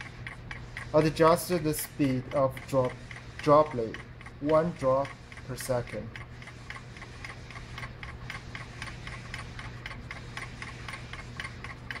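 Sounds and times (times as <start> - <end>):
rapid even ticking: 0.0 - 12.0.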